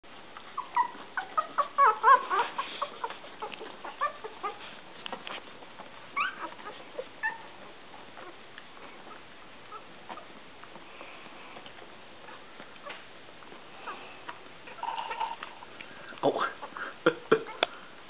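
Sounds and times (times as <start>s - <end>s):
puppies squeaking and whimpering: 0.4s - 15.7s, 17.4s - 18.0s.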